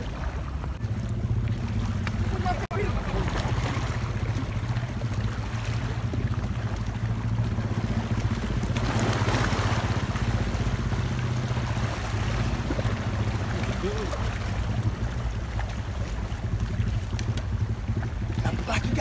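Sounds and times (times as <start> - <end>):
low motor drone: 0.0 - 19.0
waves washing against shore: 0.0 - 19.0
wind: 0.0 - 19.0.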